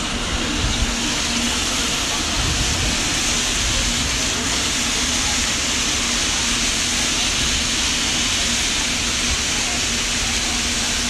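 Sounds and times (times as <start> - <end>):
floor scrubber motors hissing: 0.0 - 11.0.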